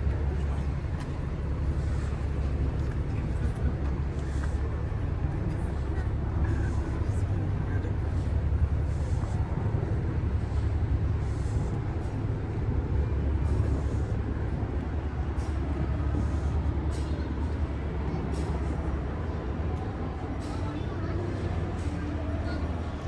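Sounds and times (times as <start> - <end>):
low city ambience rumble: 0.0 - 23.0.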